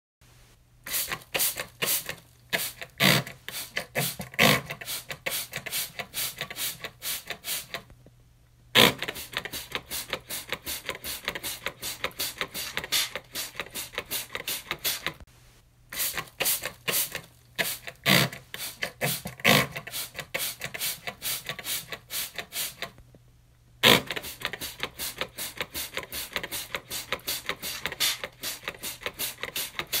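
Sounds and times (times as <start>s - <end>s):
trigger spray bottle spraying: 0.9s - 7.9s, 8.8s - 15.2s, 15.9s - 23.0s, 23.8s - 30.0s.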